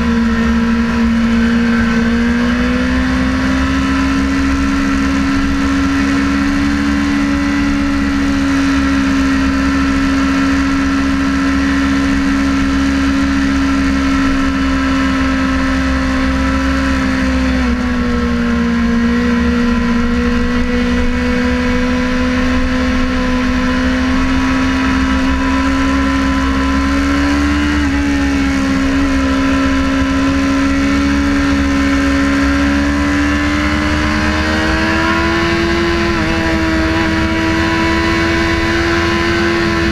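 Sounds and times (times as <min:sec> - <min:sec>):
motorcycle engine revving high: 0:00.0 - 0:39.9
wind rumble: 0:00.0 - 0:39.9.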